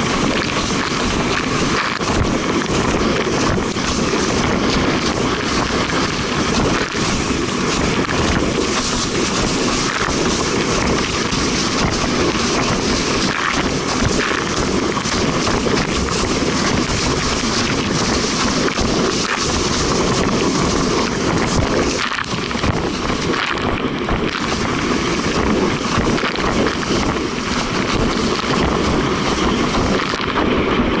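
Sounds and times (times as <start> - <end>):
water rushing and spraying: 0.0 - 31.0
wind buffeting microphone: 0.0 - 31.0.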